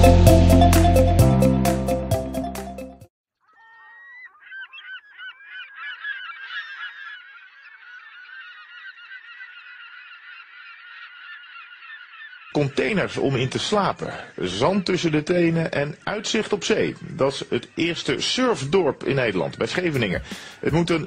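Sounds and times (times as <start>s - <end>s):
flock of birds calling: 3.4s - 21.0s.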